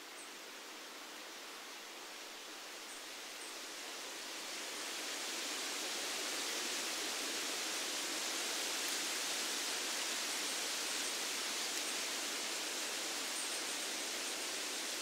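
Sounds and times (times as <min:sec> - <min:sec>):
wind rustling through leaves: 0:00.0 - 0:15.0.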